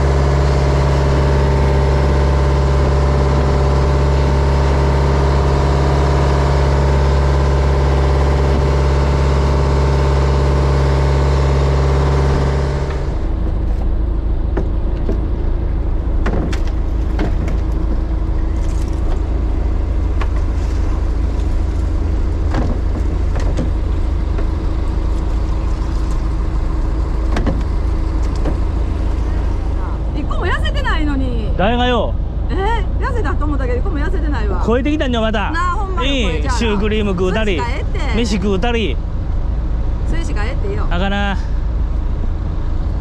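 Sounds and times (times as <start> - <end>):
boat engine running: 0.0 - 43.0
low engine hum: 0.0 - 43.0.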